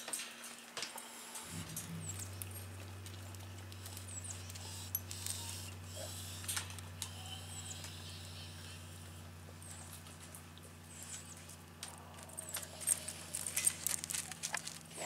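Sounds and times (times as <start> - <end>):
steady low hum: 1.0 - 15.0.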